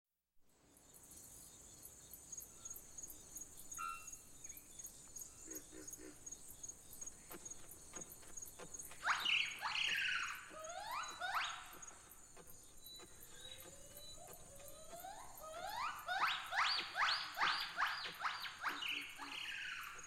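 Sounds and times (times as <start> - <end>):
short insect chirps: 0.8 - 20.0
high-pitched insect chirping: 1.2 - 20.0.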